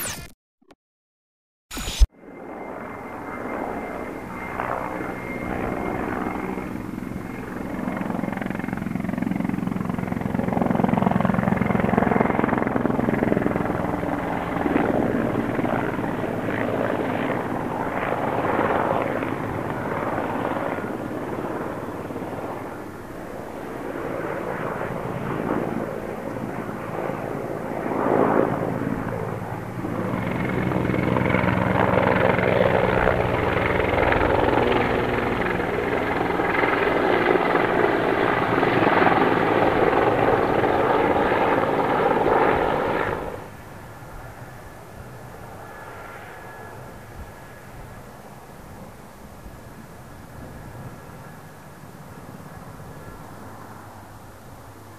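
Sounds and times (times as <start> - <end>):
helicopter flying past: 1.8 - 54.9.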